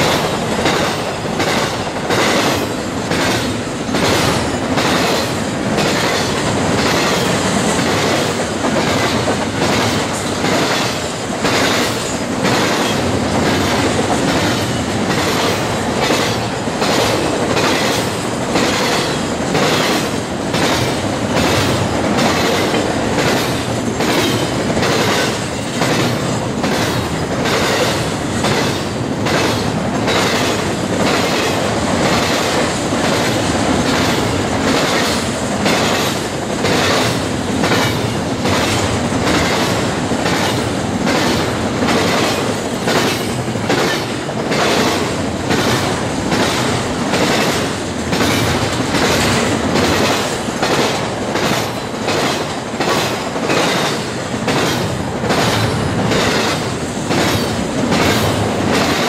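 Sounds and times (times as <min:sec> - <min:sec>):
train rumbling and rattling: 0:00.0 - 0:59.0
train wheel clicks: 0:00.0 - 0:59.0.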